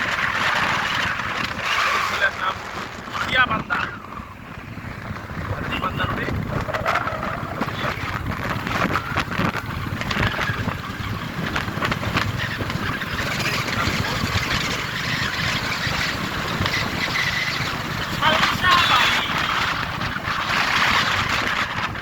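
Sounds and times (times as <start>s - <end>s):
motorcycle road noise: 0.0s - 22.0s
wind rushing over microphone: 0.0s - 22.0s.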